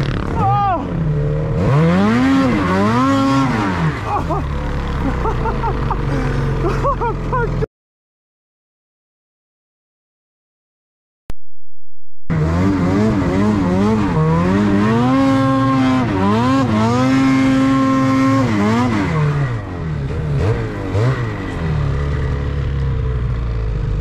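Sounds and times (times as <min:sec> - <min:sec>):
snowmobile engine revving: 0:00.0 - 0:07.6, 0:12.3 - 0:24.0.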